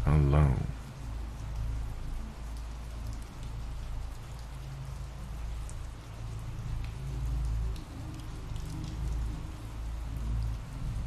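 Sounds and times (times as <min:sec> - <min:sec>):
low steady rumble: 0:00.0 - 0:11.0
steady rain: 0:00.0 - 0:11.0.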